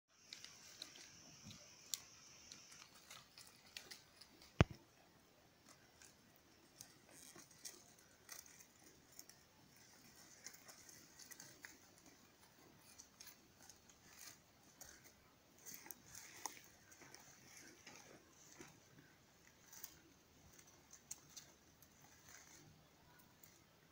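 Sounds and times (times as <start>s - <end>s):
branches rustling: 0.1s - 23.9s
leaves tearing: 0.2s - 4.8s, 5.7s - 23.5s
sheep chewing: 0.2s - 23.9s.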